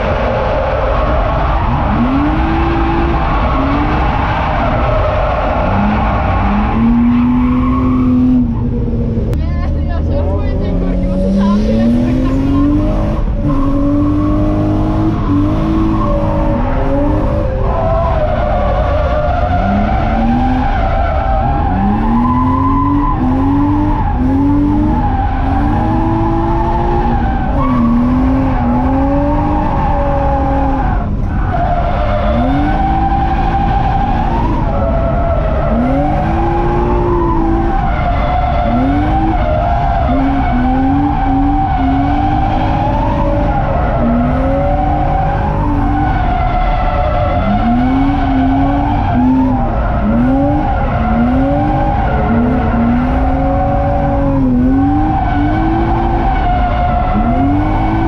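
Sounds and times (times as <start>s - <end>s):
car engine revving: 0.0s - 58.0s
tyres skidding: 0.0s - 58.0s.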